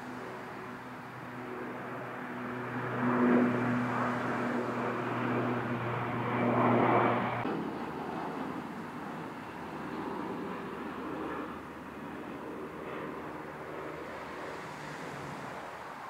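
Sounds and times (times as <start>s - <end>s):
propeller hum: 0.0s - 16.0s
rushing jet engine noise: 0.0s - 16.0s.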